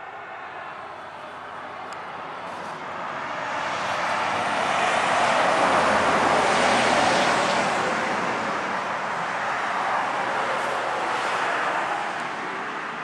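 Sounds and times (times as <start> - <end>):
passing vehicle rushing: 0.3 - 13.0.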